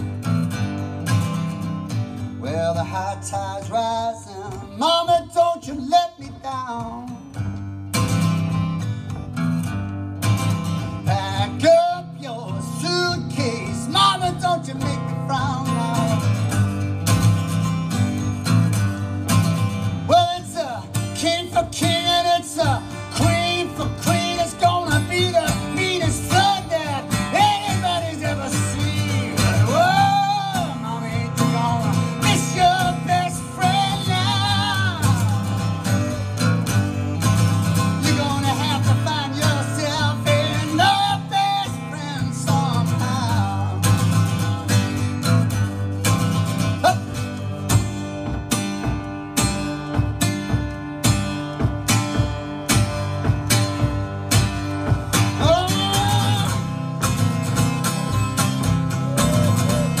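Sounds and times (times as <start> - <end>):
strummed acoustic guitar: 0.0 - 60.0.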